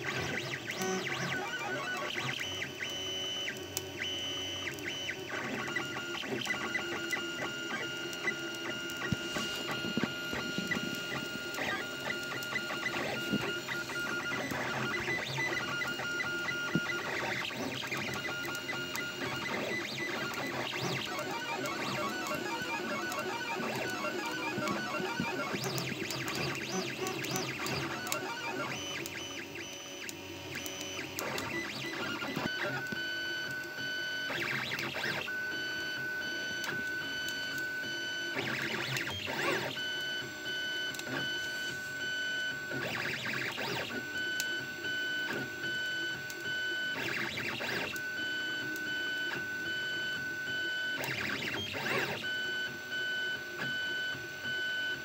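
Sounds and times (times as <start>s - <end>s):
printer motors whining: 0.0s - 55.0s.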